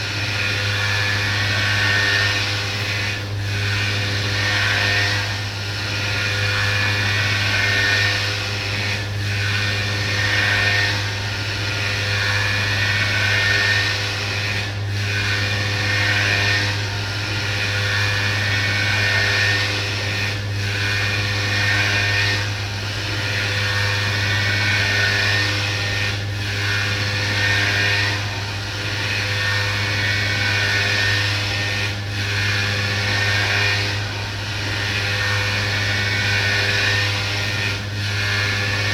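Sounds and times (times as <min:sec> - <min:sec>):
milling machine running: 0:00.0 - 0:38.9.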